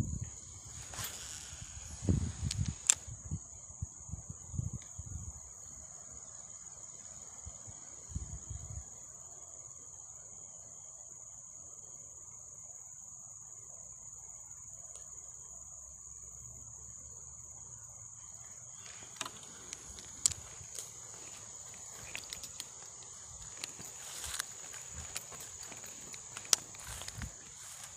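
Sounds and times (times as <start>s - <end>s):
high-pitched insect drone: 0.0s - 27.9s.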